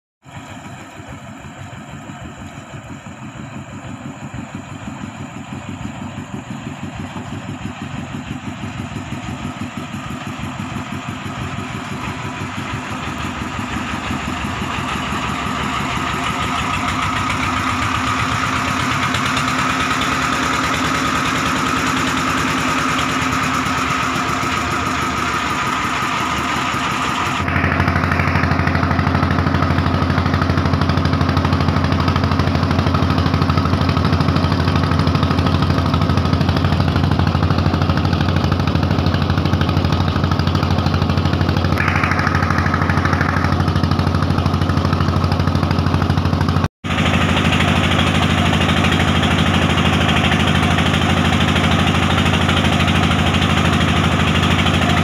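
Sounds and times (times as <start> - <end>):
boat engine running: 0.2 - 55.0.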